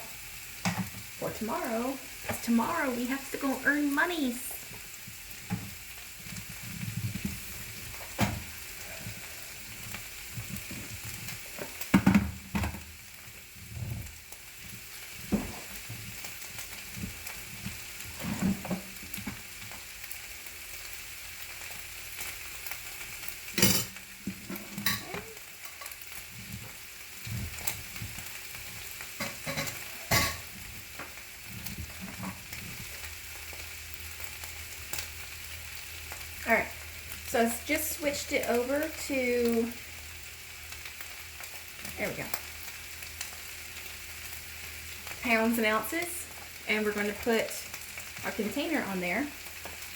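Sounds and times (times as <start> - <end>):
meat sizzling in a frying pan: 0.0 - 49.9.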